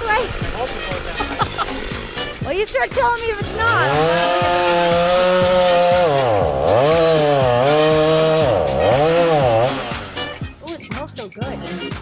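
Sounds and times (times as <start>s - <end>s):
chainsaw cutting wood: 0.0s - 10.6s.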